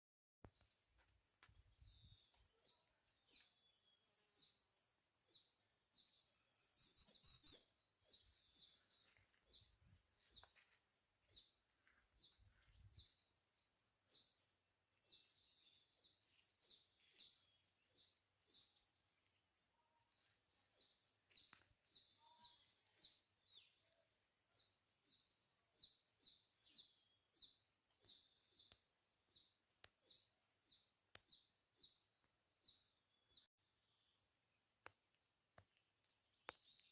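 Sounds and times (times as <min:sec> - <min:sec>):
small bird chirping: 0:00.4 - 0:36.9.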